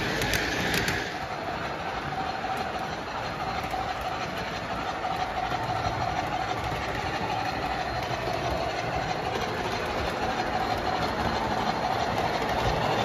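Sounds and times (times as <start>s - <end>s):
model train motor whine: 0.0s - 13.0s
toy train wheels rumbling: 0.0s - 13.0s.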